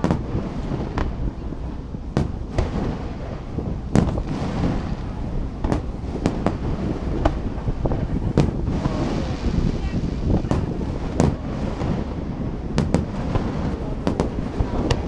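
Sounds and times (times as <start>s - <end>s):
fireworks bangs: 0.0s - 15.0s
steady low rumble: 0.0s - 15.0s.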